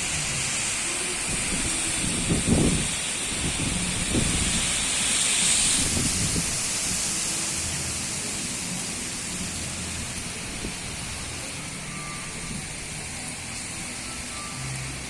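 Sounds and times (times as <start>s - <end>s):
strong wind: 0.0s - 14.7s
rain hiss: 0.0s - 15.0s.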